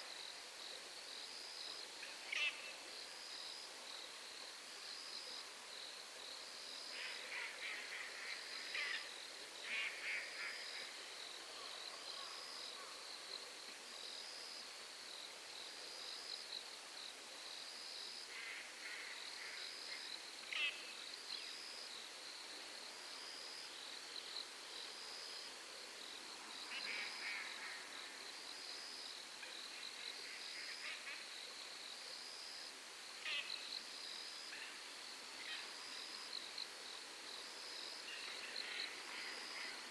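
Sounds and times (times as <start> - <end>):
night insects chirping: 0.1 - 39.9.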